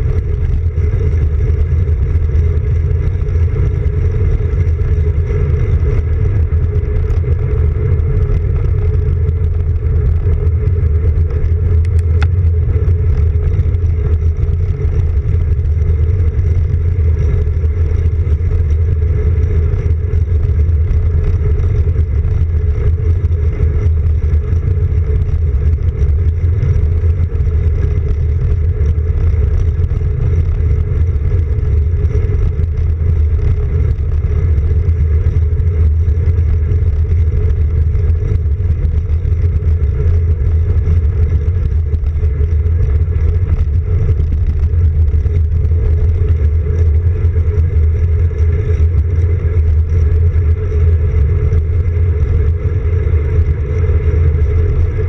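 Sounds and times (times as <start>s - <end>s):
wind and road vibration rumble: 0.0s - 55.0s.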